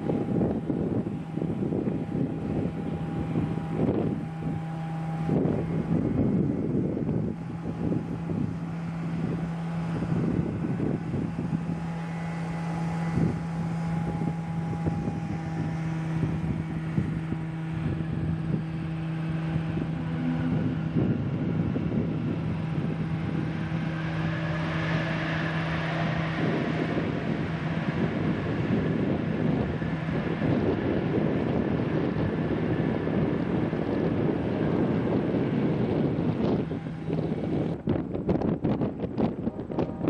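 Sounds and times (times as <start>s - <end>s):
jet engines humming: 0.0s - 40.0s
wind buffeting microphone: 0.0s - 40.0s.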